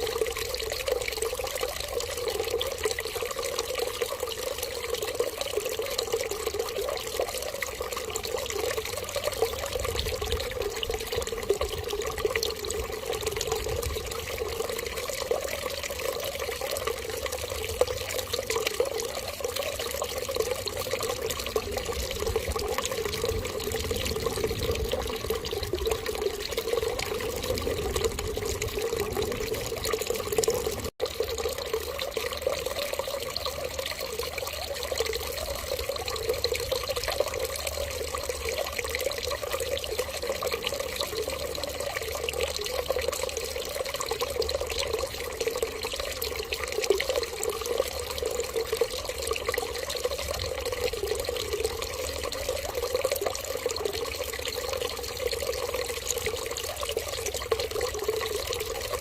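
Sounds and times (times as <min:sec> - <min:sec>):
water running: 0:01.9 - 0:59.0.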